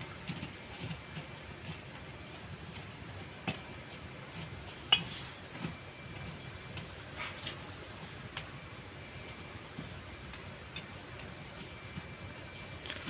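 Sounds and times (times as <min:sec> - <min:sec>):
metal rod clicking on coals: 0:00.0 - 0:13.0.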